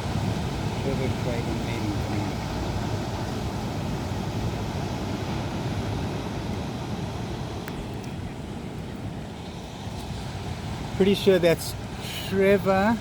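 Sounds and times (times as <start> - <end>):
surf washing on beach: 0.0 - 13.0.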